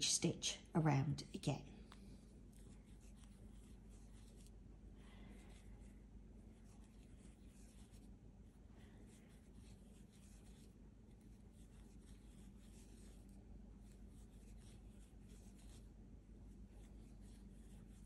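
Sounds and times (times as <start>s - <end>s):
crochet hook rustling yarn: 0.0s - 18.0s
steady low hum: 0.0s - 18.0s.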